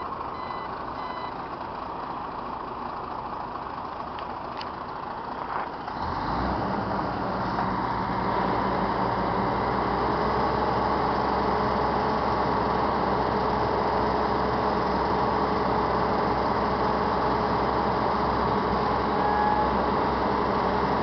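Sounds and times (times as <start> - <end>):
truck diesel engine droning: 0.0 - 21.0.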